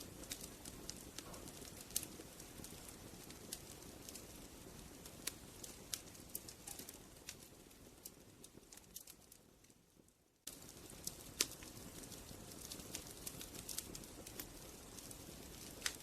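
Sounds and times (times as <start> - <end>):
sharp pops of fire: 0.0 - 16.0
wood fire crackling: 0.0 - 16.0.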